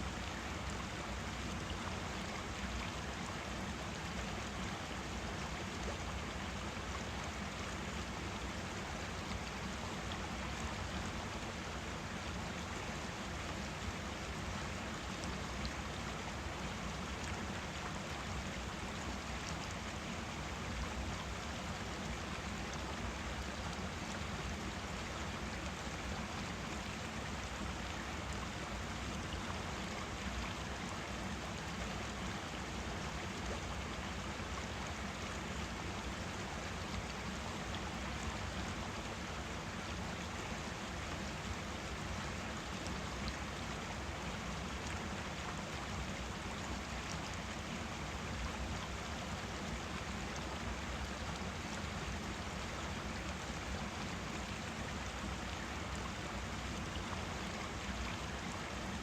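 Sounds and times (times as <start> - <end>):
stream water flowing over rocks: 0.0 - 59.0.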